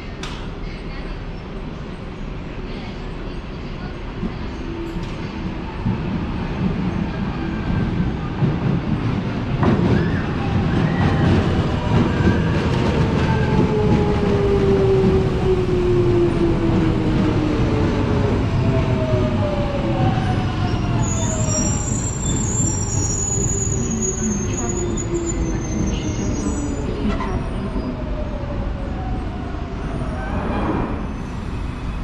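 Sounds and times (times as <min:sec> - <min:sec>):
wheels rumbling on rail: 0:00.0 - 0:32.0.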